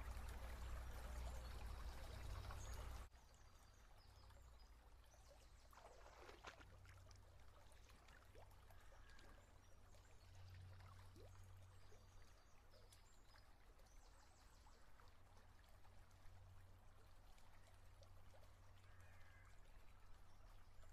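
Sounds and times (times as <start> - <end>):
creek trickling over gravel: 0.0 - 20.9
low steady hum: 0.0 - 20.9
small splash in water: 0.0 - 20.9.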